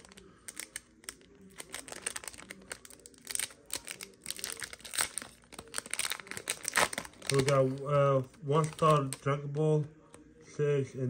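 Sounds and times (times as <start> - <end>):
plastic wrapper crinkling and tearing: 0.0 - 9.6.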